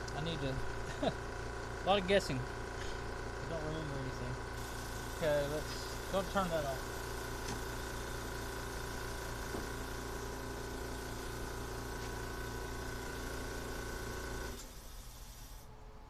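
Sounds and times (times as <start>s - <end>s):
air compressor motor running: 0.0s - 15.8s.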